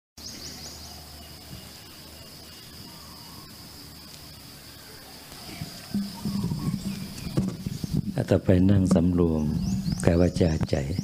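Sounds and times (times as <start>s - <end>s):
insects buzzing: 0.2s - 11.0s.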